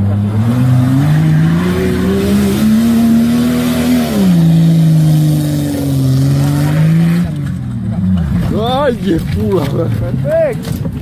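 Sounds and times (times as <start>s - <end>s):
suv engine revving: 0.0s - 10.9s.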